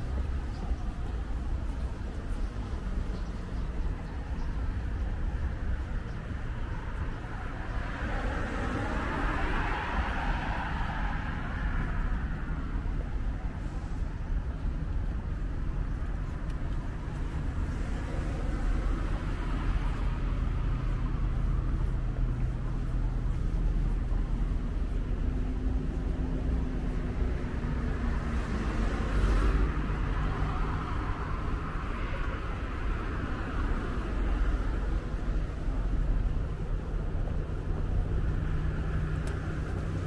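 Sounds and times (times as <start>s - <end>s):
vehicle engine hum passing: 0.0s - 14.2s, 15.9s - 40.0s
street traffic: 0.0s - 40.0s
wind rumbling on microphone: 0.0s - 40.0s.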